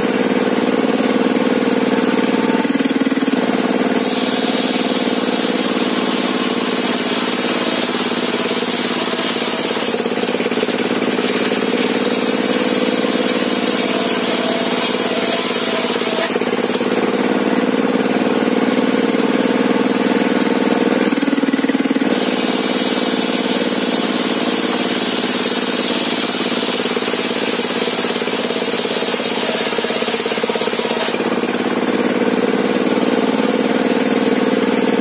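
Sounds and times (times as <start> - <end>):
saw engine running: 0.0 - 35.0.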